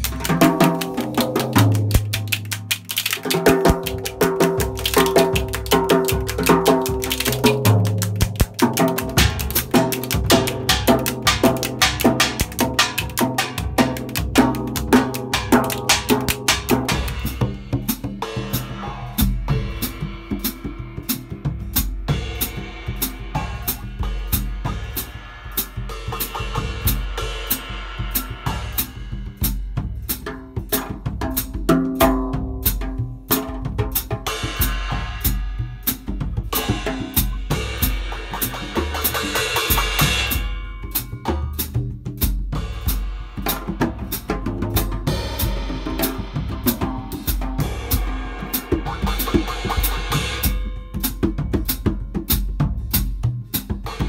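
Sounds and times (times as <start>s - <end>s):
djembes played by hand: 0.0s - 54.0s
drum kit: 0.0s - 54.0s.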